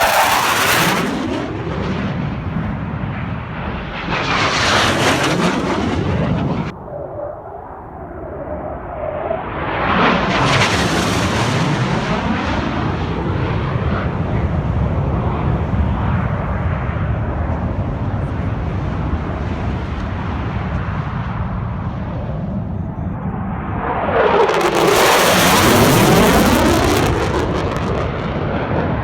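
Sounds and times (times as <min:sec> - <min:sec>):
jet engine roar passing: 0:00.0 - 0:29.0.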